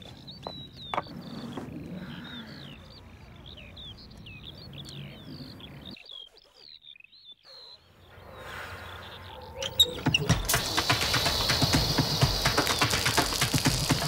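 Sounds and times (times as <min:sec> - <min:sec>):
low outdoor background: 0:00.0 - 0:14.0
small birds chirping: 0:00.0 - 0:14.0.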